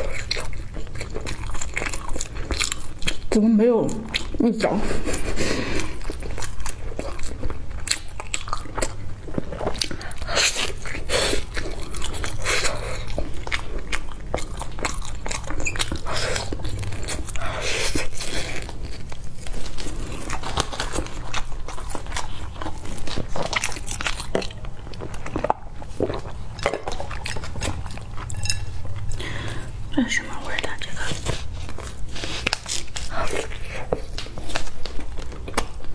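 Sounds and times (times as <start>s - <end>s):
biting and chewing: 0.0s - 29.8s, 30.4s - 35.9s.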